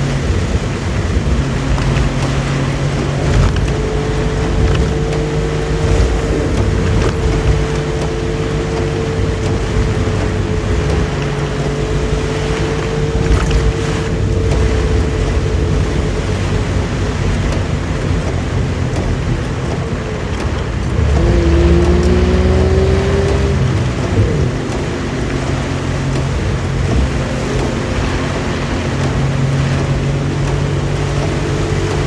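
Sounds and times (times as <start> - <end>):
steady whine: 0.0 - 32.0
two-stroke engine running: 0.0 - 32.0.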